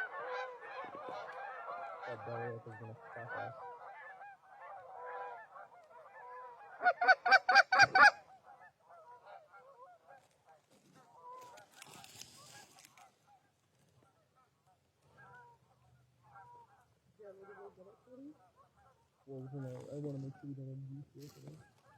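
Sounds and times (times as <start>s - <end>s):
geese honking: 0.0s - 21.9s.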